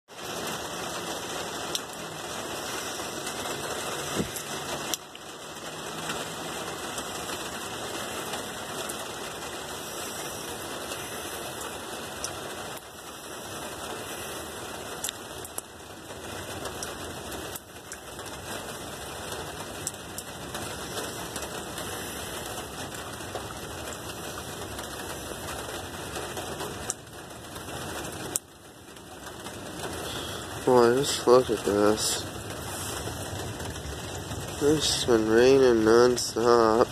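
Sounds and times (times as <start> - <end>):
heavy rain pattering: 0.1 - 36.9.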